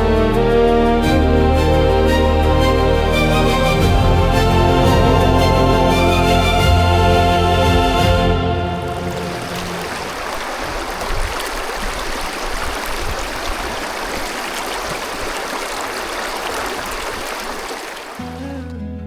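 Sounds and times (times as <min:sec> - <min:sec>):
stream water rushing: 0:01.4 - 0:18.6.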